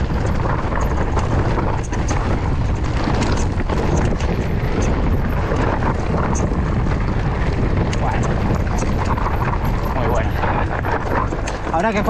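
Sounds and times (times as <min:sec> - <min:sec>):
mountain bike rumbling on trail: 0:00.0 - 0:12.0
stones and bike clicking: 0:00.0 - 0:12.0
wind buffeting microphone: 0:00.0 - 0:12.0.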